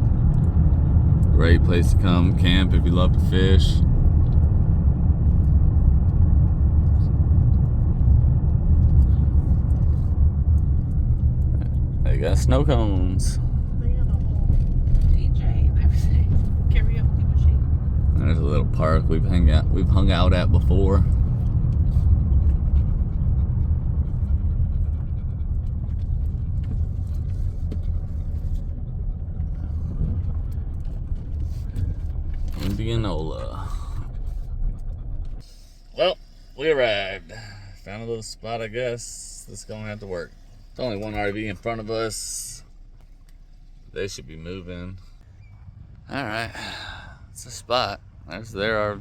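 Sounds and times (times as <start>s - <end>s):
van engine and tyres rumbling: 0.0s - 49.0s.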